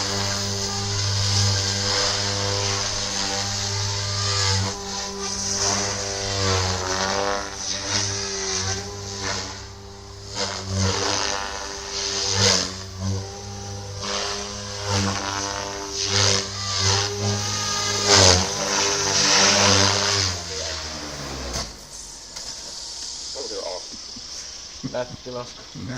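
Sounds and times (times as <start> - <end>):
rotor whooshes: 0.0 - 25.8
rc helicopter motor whine: 0.0 - 25.9.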